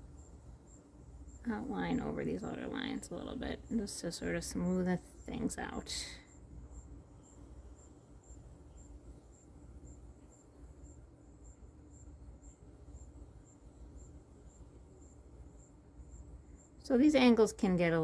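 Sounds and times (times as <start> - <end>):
cricket chirping: 0.0 - 17.4
low steady hum: 0.0 - 18.0.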